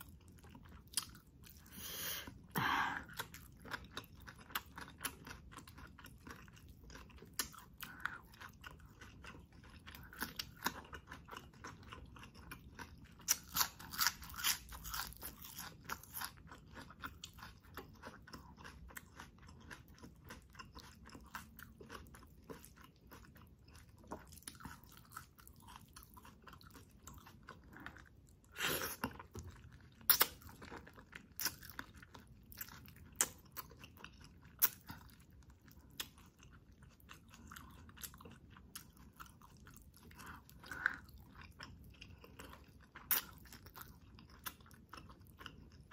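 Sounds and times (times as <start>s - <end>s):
person chewing food: 0.0s - 45.9s.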